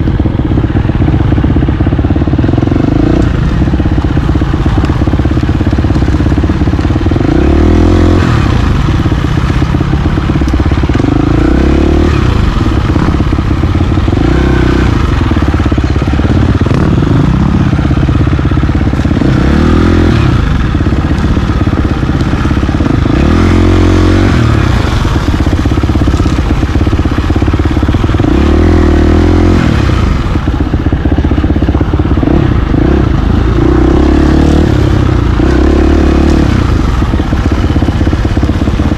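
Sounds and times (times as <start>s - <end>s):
dirt bike engine revving: 0.7s - 38.9s.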